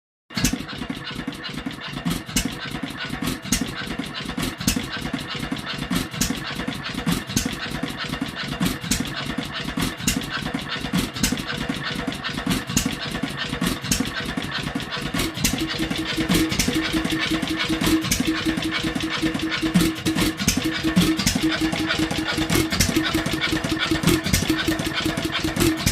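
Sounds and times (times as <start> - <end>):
stationary engine beats: 0.3 - 25.9.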